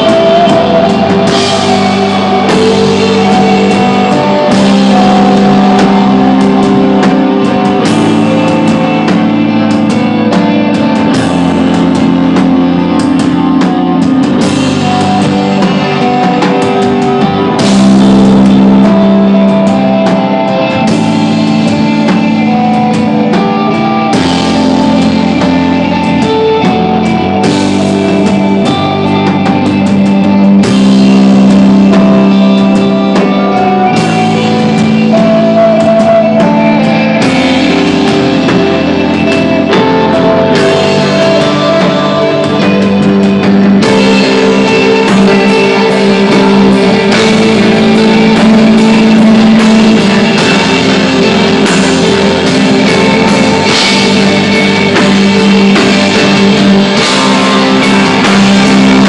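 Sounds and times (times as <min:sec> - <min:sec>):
drum kit: 0:00.0 - 0:59.0
electric guitar: 0:00.0 - 0:59.0
sustained low notes: 0:00.0 - 0:59.0.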